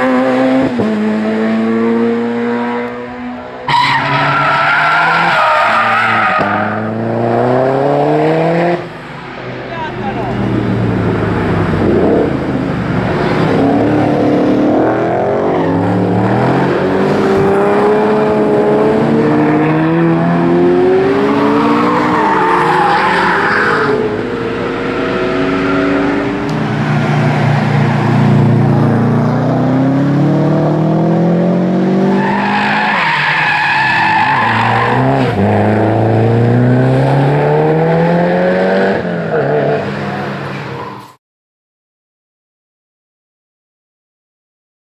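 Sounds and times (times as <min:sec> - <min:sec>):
race car engine accelerating: 0:00.0 - 0:09.1, 0:09.8 - 0:40.7.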